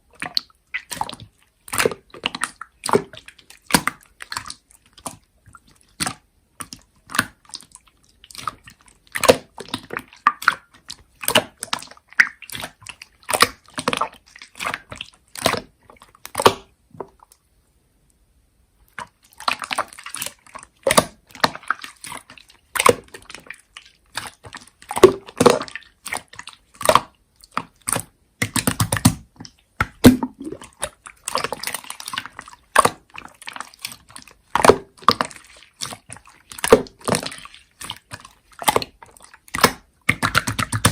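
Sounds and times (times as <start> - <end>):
slime squished by hand: 0.1 - 17.2, 18.9 - 40.9.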